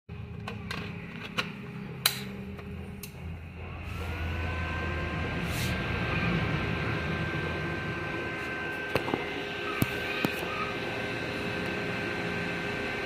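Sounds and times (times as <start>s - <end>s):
charger whine: 0.1s - 13.0s
low hum: 0.1s - 13.0s.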